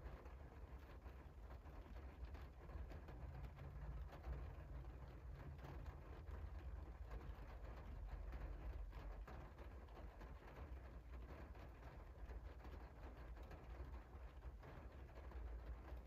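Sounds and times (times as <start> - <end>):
rain ticking on window glass: 0.0 - 16.0.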